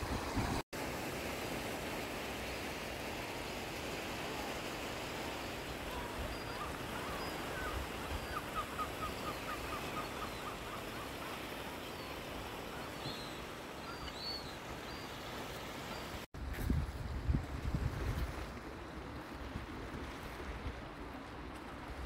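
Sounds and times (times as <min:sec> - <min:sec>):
small waves on rocky shore: 0:00.0 - 0:22.0.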